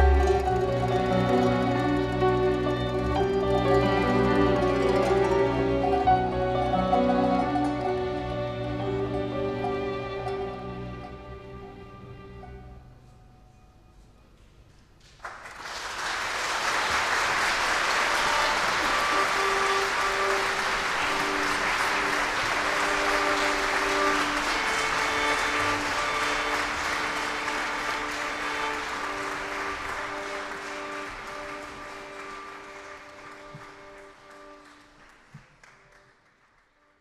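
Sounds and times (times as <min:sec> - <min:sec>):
audience applause: 0:00.0 - 0:09.2, 0:15.0 - 0:37.0
held musical notes: 0:00.0 - 0:14.7, 0:17.2 - 0:35.2.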